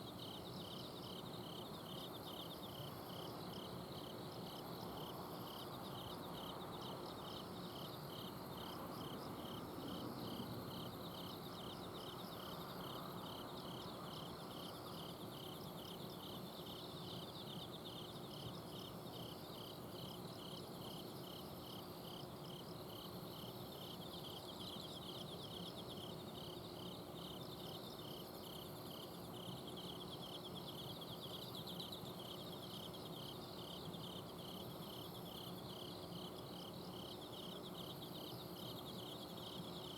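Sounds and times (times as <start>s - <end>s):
cricket chirping: 0.0s - 39.9s
insect trills: 0.0s - 39.9s.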